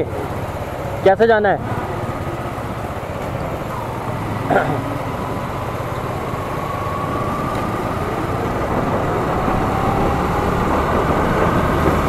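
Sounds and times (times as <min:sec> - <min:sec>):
motorcycle engine rumble: 0:00.0 - 0:12.0
wind rushing across microphone: 0:01.6 - 0:12.0.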